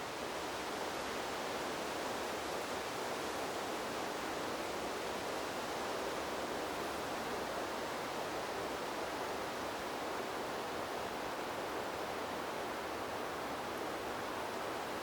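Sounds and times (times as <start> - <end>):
wind through bamboo: 0.0 - 15.0.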